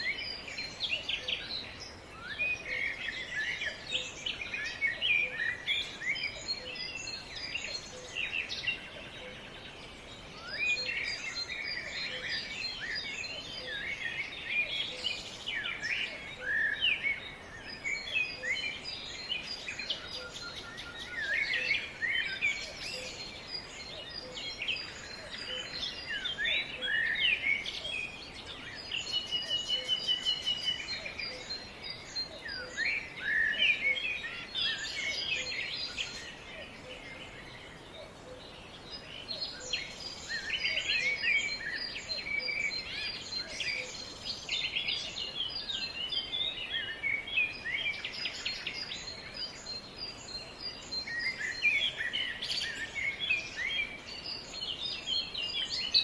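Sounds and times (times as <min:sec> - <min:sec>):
birds singing and chirping: 0:00.0 - 0:56.0
steady background hiss: 0:00.0 - 0:56.0.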